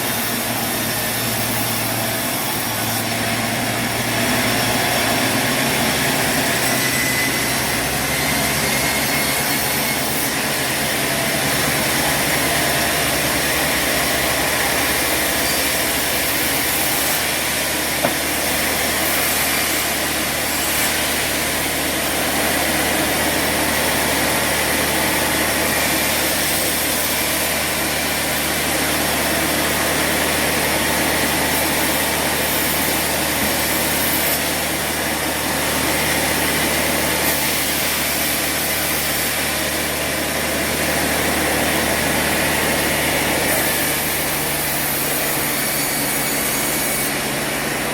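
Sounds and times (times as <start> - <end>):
saw cutting timber: 0.0 - 47.9.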